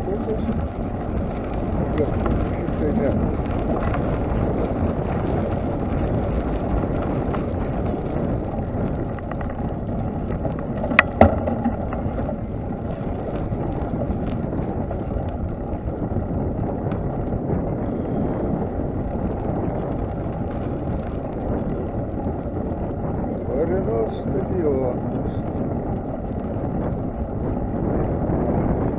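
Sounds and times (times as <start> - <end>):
bicycle tyre noise: 0.0 - 28.9
wind on microphone: 0.0 - 28.9.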